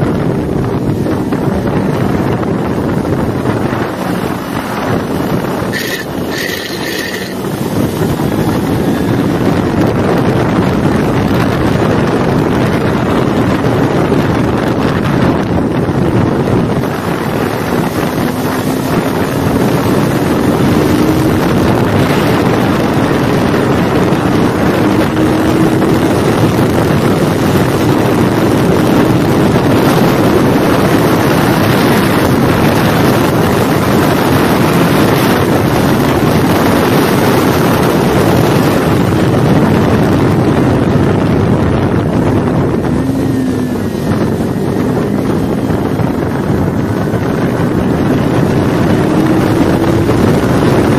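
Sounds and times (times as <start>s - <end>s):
motorcycle engine running hard: 0.0s - 50.9s
wind rush on microphone: 0.0s - 50.9s.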